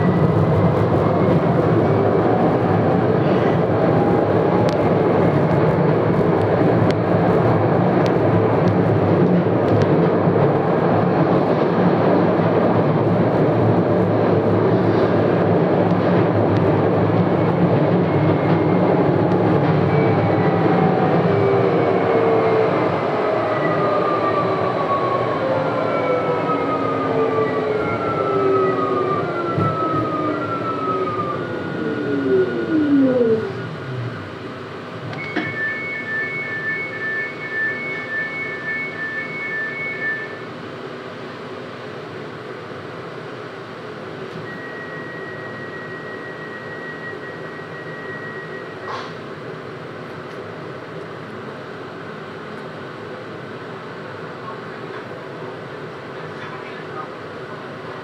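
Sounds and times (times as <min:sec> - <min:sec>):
tram wheels rumbling on rails: 0:00.0 - 0:58.0.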